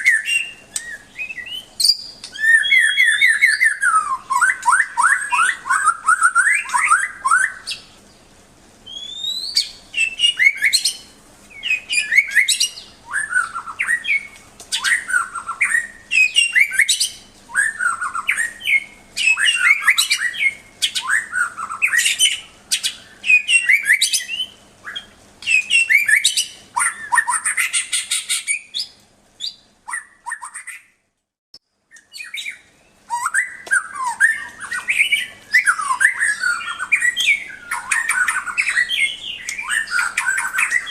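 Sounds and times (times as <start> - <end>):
bird singing whistles and trills: 0.0 - 8.2, 8.8 - 31.0, 31.9 - 40.9.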